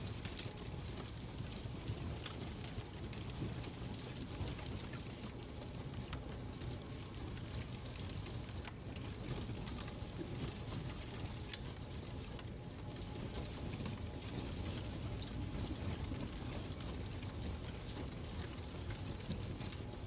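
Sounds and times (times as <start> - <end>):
fire crackling: 0.0 - 20.0
fire rumbling: 0.0 - 20.0.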